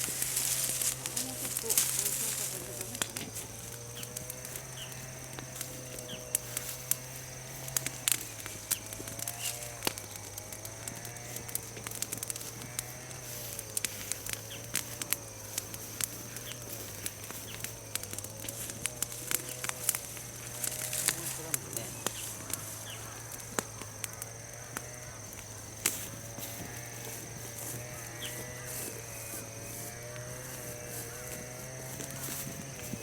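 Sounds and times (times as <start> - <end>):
bonfire crackling: 0.0 - 33.0
sharp pops of burning wood: 0.0 - 33.0.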